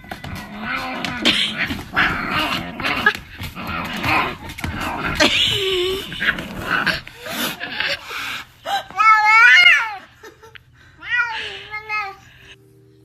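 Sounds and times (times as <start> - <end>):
pet crying: 0.0 - 10.2, 11.0 - 12.3.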